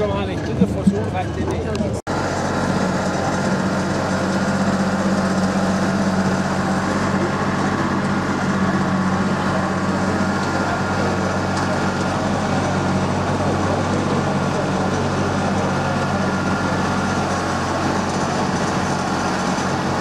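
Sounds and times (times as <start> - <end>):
tractor engine humming: 0.0 - 20.0.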